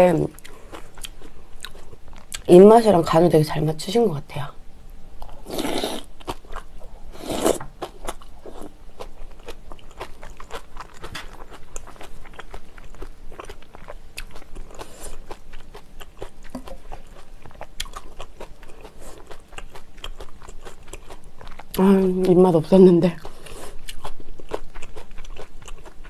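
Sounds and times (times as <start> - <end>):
person chewing noodles: 0.4 - 2.5, 5.2 - 21.8, 23.2 - 26.0.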